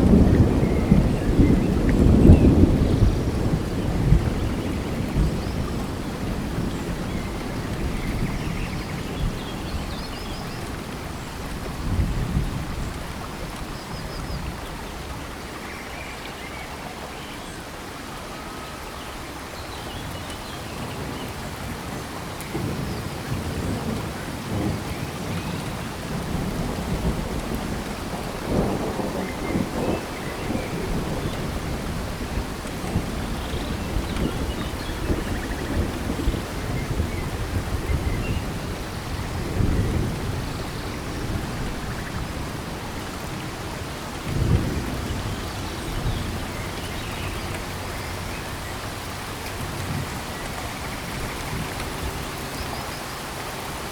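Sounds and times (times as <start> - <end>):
thunder rumbling: 0.0 - 13.5, 21.8 - 52.7
steady rain: 0.0 - 53.9.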